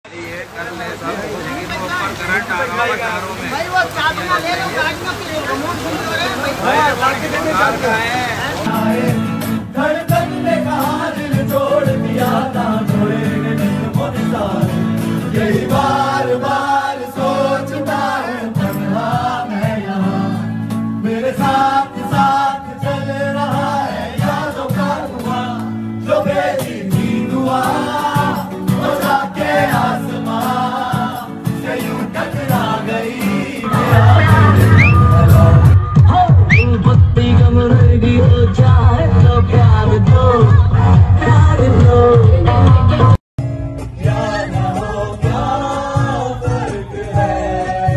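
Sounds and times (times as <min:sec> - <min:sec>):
song with singing voices: 0:08.6 - 0:47.9.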